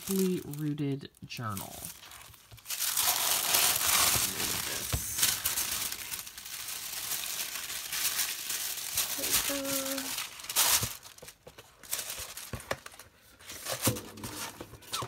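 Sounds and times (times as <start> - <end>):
tissue paper rustling: 0.0 - 0.8, 1.4 - 15.0.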